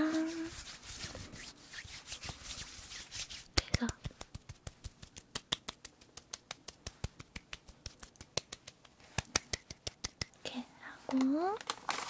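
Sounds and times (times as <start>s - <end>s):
wet hands patting together: 0.1s - 10.4s.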